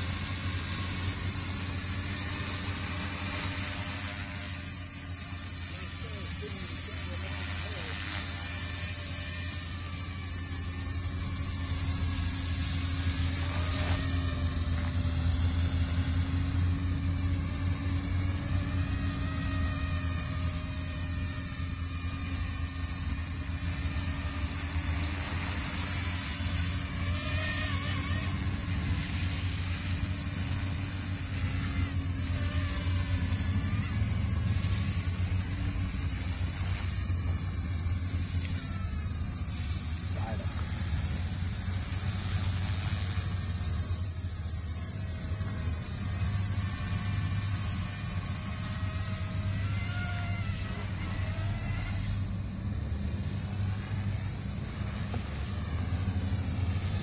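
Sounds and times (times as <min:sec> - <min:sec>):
high motor whine: 0:00.0 - 0:57.0
rotor blades buzzing: 0:00.0 - 0:57.0.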